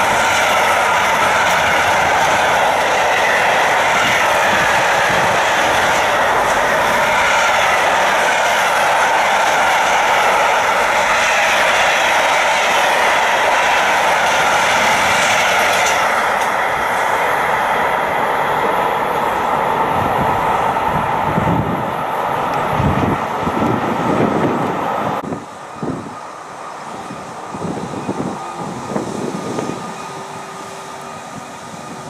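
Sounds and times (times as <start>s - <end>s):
low gusty rumbles: 0.0s - 32.0s
train wheels on rails: 0.0s - 32.0s.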